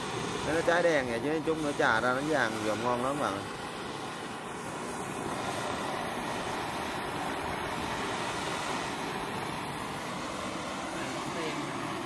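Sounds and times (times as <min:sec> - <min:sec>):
blowtorch hissing: 0:00.0 - 0:12.0.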